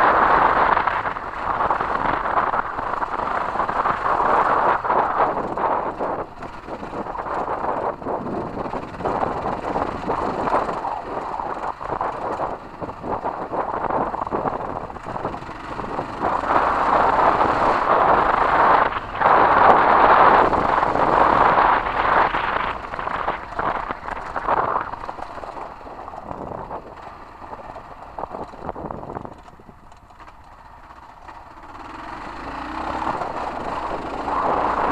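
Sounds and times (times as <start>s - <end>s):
wind buffeting microphone: 0.0s - 30.0s, 31.8s - 34.9s
motorcycle engine running: 0.0s - 34.9s.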